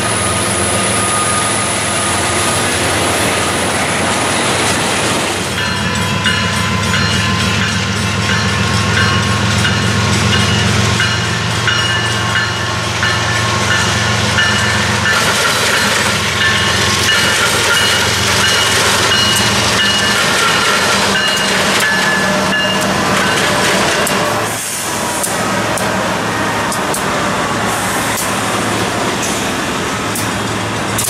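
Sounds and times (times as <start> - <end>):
diesel locomotive engines: 0.0 - 31.0
train wheel and rail noise: 0.0 - 31.0.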